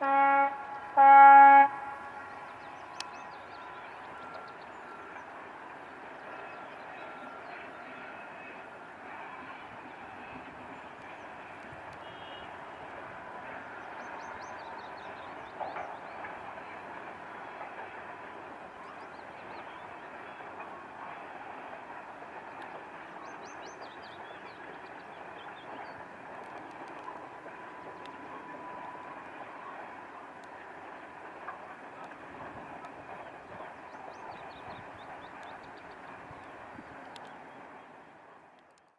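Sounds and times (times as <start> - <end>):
train rolling on rails: 0.0 - 38.9.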